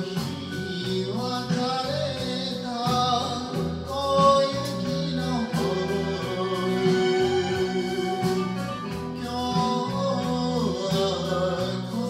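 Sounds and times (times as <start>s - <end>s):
karaoke backing track: 0.0s - 12.0s
man singing into microphone: 0.0s - 12.0s.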